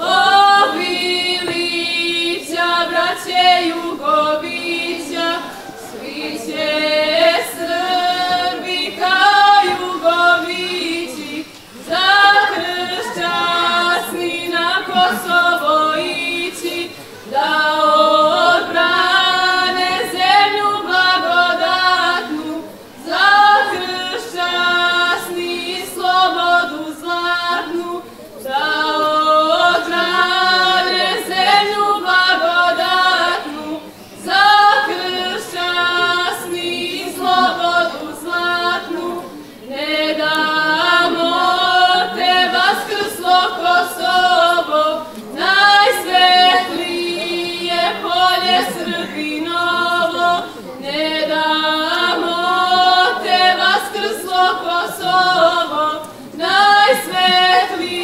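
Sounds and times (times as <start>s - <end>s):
women singing a cappella: 0.0s - 58.0s.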